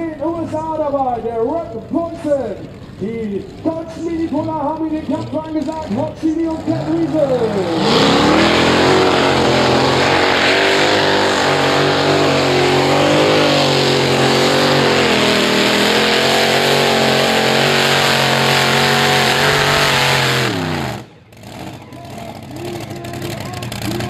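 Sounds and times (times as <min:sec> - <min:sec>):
tractor engine running flat out: 0:00.0 - 0:24.0.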